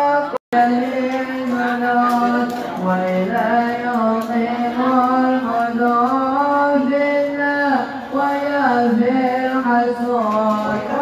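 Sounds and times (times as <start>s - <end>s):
devotional chanting in long notes: 0.0s - 11.0s.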